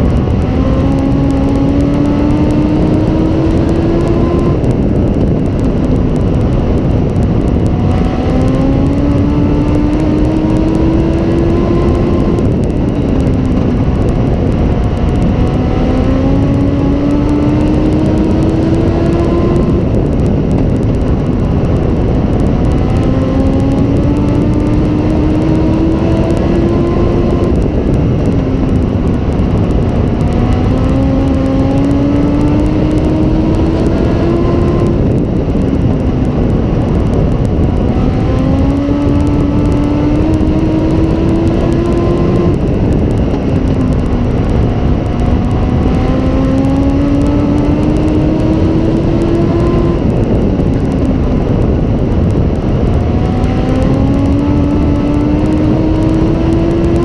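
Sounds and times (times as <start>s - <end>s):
race car engine revving: 0.0s - 57.0s
steady rushing noise: 0.0s - 57.0s.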